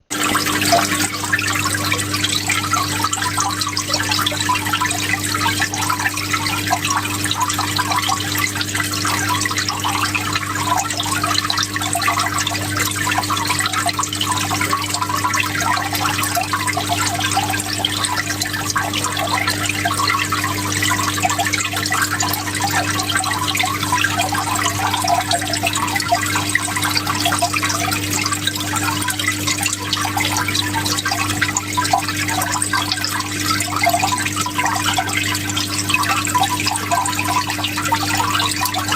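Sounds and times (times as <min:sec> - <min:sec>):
water flowing and trickling: 0:00.0 - 0:38.9.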